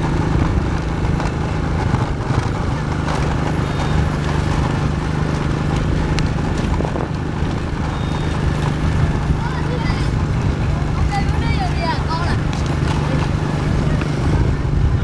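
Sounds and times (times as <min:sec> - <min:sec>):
vehicle road noise: 0:00.0 - 0:15.0.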